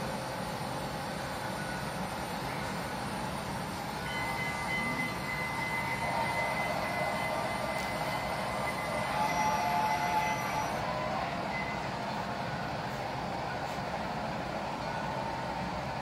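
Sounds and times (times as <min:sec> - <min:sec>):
thin steady squeal: 0:00.2 - 0:13.8.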